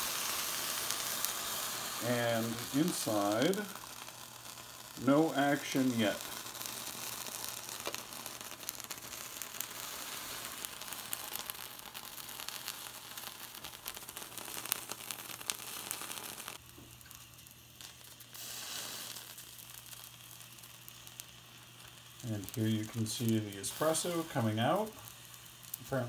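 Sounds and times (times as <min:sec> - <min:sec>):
water sizzling on hot burner: 0:00.0 - 0:26.0.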